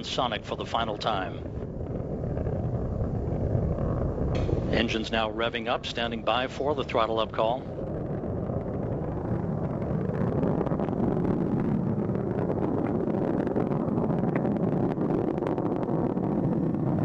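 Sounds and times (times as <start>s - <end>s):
rocket engines roaring: 0.0s - 17.0s.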